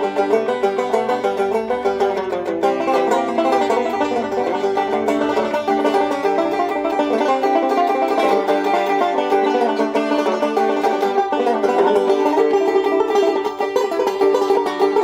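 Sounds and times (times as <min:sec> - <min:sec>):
banjo picking tune: 0:00.0 - 0:15.0.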